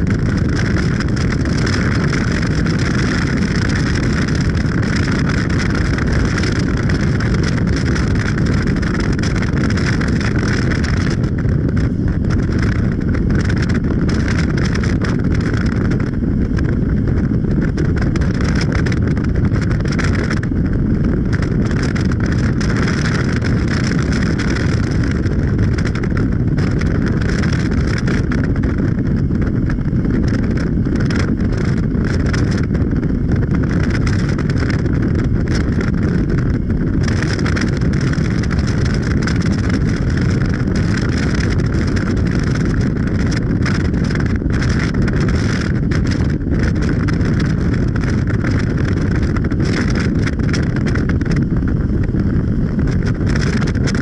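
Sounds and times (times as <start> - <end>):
vehicle low rumble: 0.0 - 54.0.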